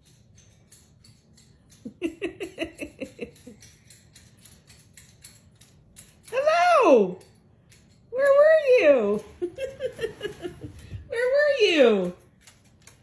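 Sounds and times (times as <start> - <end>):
light clicks and scratching: 0.0 - 13.0.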